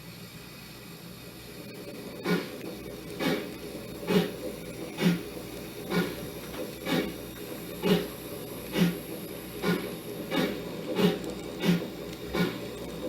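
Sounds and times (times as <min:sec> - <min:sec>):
steady hiss: 0:00.0 - 0:13.0
steam locomotive chuffs from speaker: 0:02.0 - 0:13.0.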